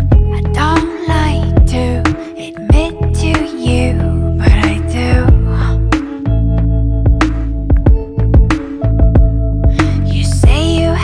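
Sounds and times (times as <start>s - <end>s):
background music with a beat: 0.0s - 11.0s.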